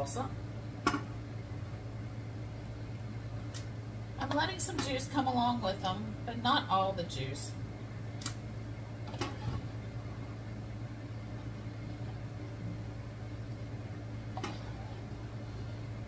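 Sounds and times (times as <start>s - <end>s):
range hood fan humming: 0.0s - 16.0s.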